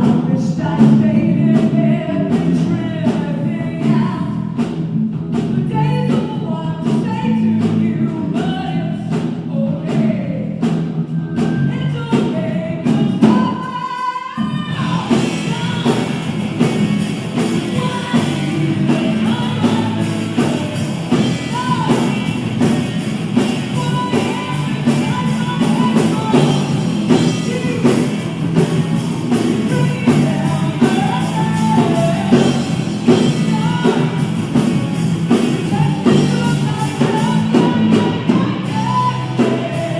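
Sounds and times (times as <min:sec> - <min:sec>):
drums: 0:00.0 - 0:39.9
lead singer singing: 0:00.0 - 0:39.9
live pop-rock band playing: 0:00.0 - 0:39.9.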